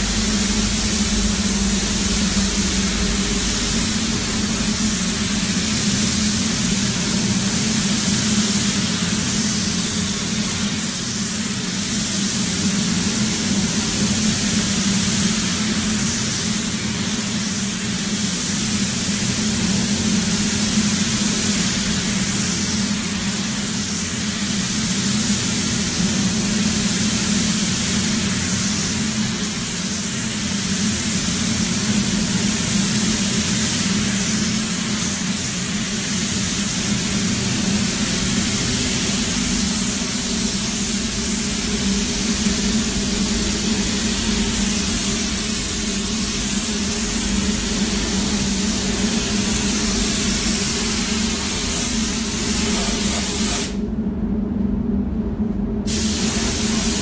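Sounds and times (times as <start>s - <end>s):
paint spray gun hissing: 0.0s - 53.8s, 55.9s - 57.0s
steady low hum: 0.0s - 57.0s.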